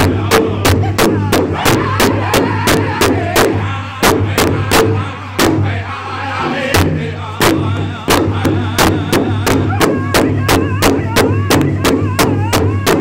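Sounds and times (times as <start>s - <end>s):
large drum beating: 0.0s - 5.8s, 6.4s - 13.0s
men singing in unison: 0.0s - 13.0s.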